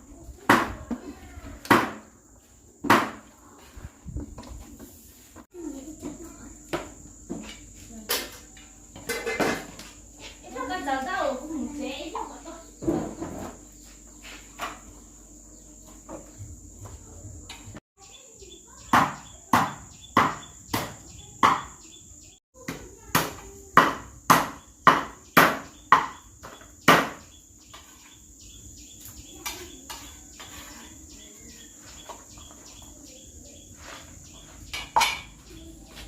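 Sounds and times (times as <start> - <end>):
crickets chirring: 0.2 - 36.0.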